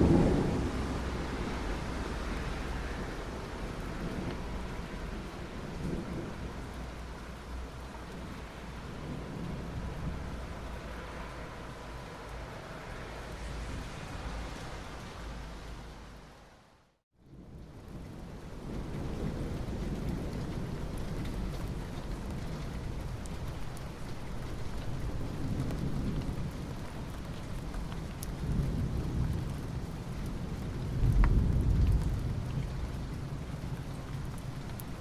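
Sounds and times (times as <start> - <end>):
rain falling on asphalt: 0.0 - 35.0.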